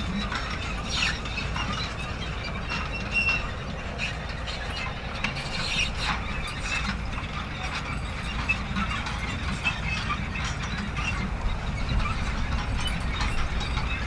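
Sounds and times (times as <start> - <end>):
machine clicking and squeaking: 0.0 - 14.0.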